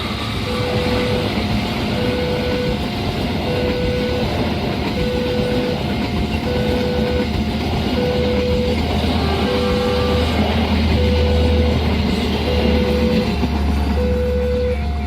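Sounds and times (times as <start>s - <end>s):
train passing: 0.0s - 15.0s
level crossing alarm: 0.4s - 15.0s.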